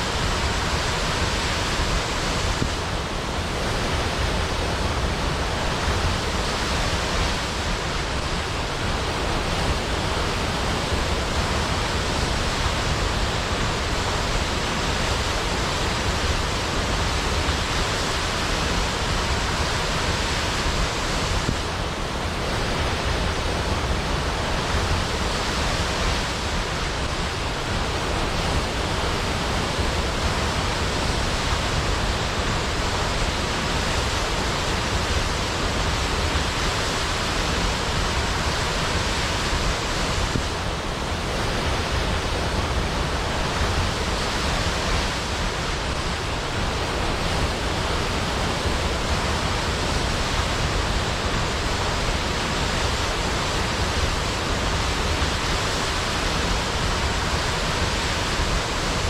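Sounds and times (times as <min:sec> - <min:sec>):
waterfall crashing into pool: 0:00.0 - 0:59.0.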